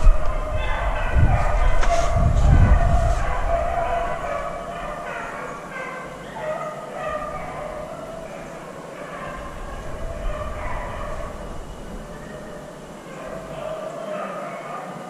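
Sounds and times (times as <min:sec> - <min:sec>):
dogs baying and yelping: 0:00.0 - 0:15.0.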